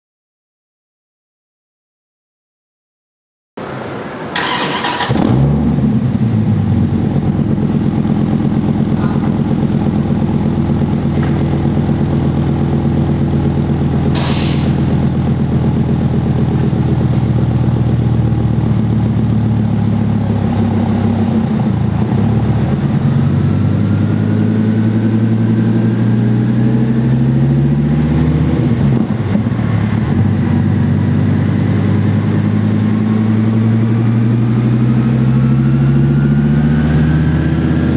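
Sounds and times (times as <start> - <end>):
car engine running: 4.4 - 37.9.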